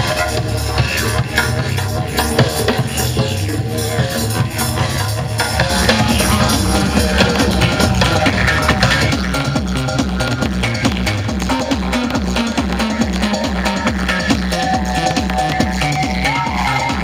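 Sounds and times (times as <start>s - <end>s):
loud music with drum beat: 0.0s - 17.0s.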